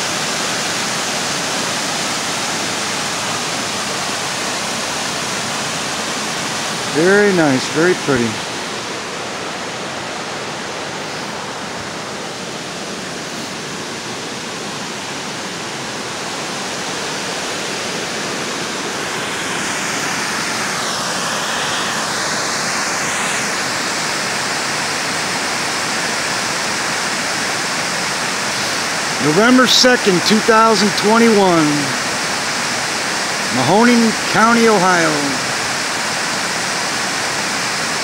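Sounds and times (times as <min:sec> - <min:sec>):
water rushing over waterfall: 0:00.0 - 0:38.0.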